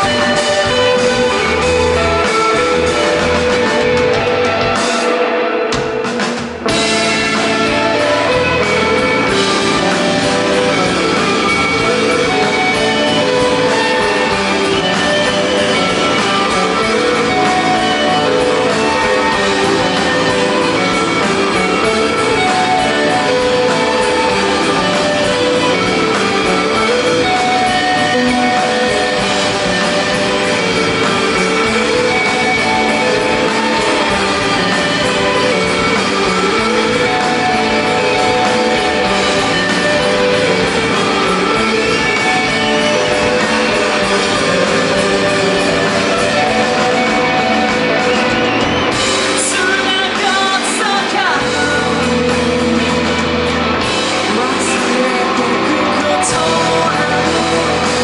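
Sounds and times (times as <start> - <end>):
bass guitar: 0.0 - 58.0
drums: 0.0 - 58.0
electric guitars: 0.0 - 58.0.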